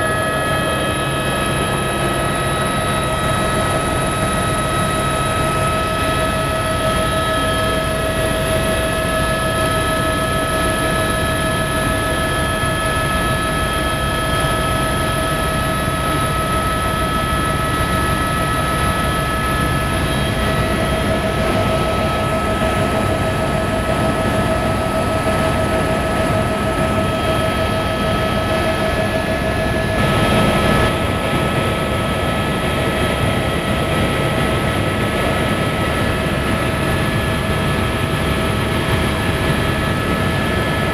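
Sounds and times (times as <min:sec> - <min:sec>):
helicopter rotor and engine drone: 0:00.0 - 0:40.9
high-pitched whine: 0:00.0 - 0:40.9.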